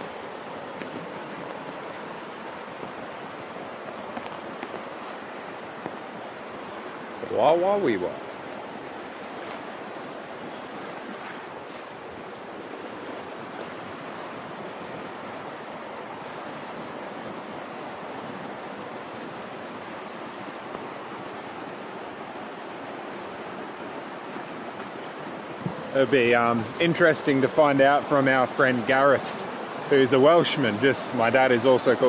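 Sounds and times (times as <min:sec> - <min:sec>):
river rushing: 0:00.0 - 0:32.0.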